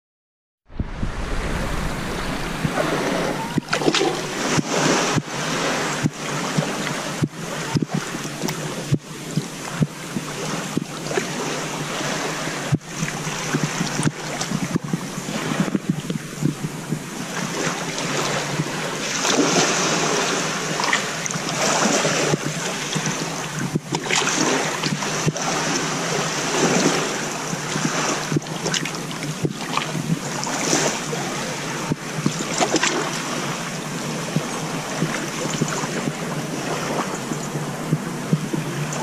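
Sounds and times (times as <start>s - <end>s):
small waves washing on shore: 0.7s - 39.0s
wind on microphone: 0.7s - 39.0s.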